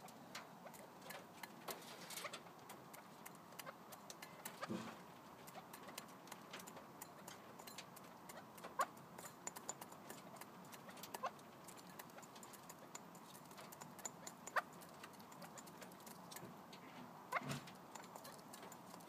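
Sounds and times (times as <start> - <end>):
beaks clicking on pellets: 0.1 - 19.0.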